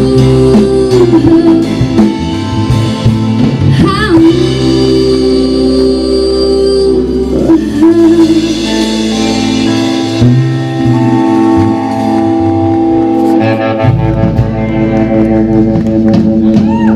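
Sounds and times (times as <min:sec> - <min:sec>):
live band music: 0:00.0 - 0:16.9.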